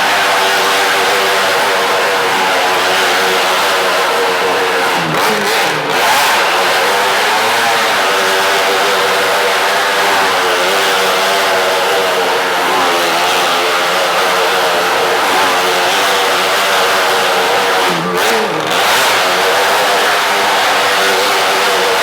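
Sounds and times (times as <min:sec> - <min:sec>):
motorcycle engine running hard: 0:00.0 - 0:22.0.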